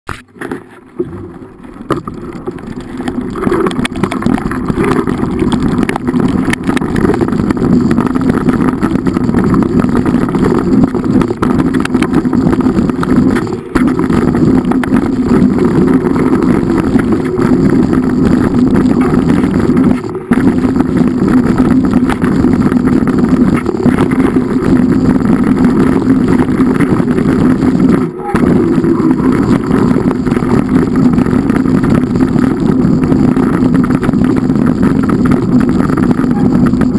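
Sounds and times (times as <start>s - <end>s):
engine running steadily: 0.1s - 36.9s.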